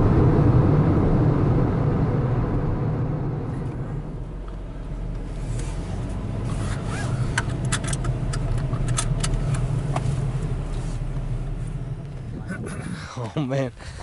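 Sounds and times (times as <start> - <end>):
car engine and road hum: 0.0 - 14.0.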